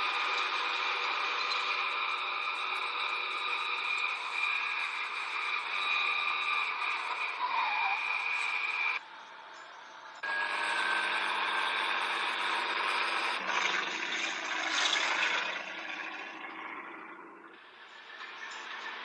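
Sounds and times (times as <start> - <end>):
vehicle engines and road noise: 0.0 - 19.0.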